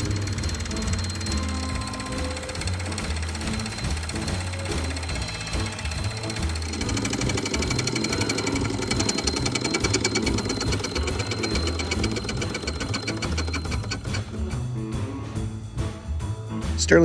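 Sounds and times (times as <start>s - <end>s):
model steam engine chuffing: 0.0s - 14.4s.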